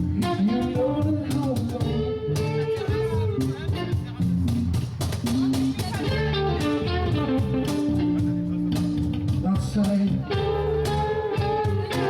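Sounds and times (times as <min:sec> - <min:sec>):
rock band playing instrumental: 0:00.0 - 0:12.0.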